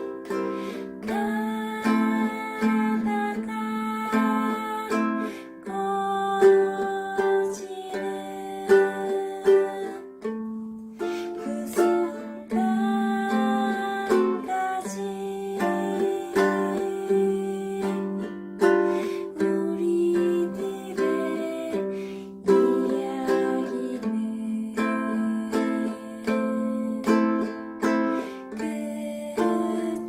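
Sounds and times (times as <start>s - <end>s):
ukulele strumming chords: 0.0s - 30.0s.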